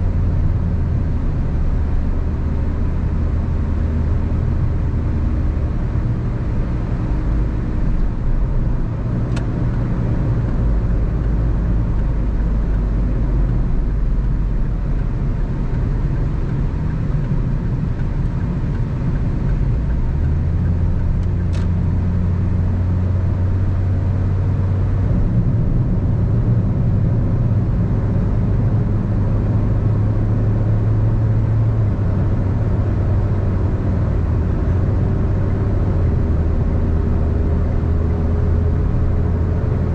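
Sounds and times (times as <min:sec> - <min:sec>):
car engine humming: 0:00.0 - 0:39.9
tyre and road noise: 0:00.0 - 0:39.9.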